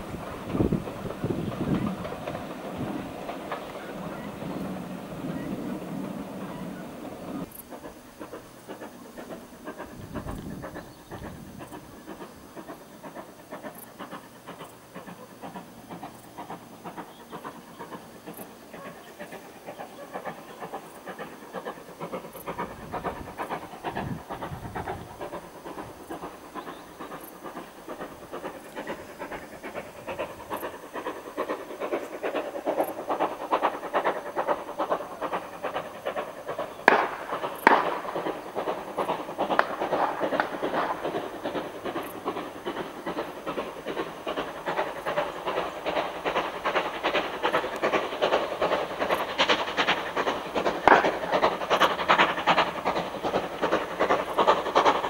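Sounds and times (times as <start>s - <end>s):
steam locomotive exhaust beats: 0.0s - 55.0s.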